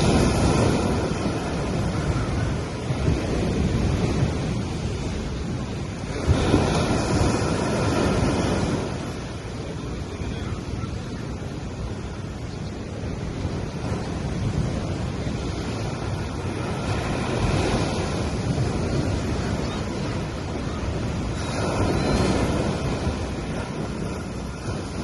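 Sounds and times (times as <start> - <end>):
sea waves washing onto beach: 0.0 - 25.0
waves breaking: 0.0 - 25.0.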